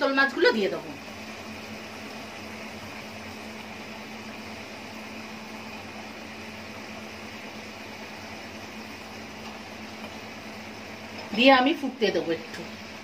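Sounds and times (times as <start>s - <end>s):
gas burner hum: 0.0s - 13.0s
curry simmering in a wok: 0.5s - 13.0s.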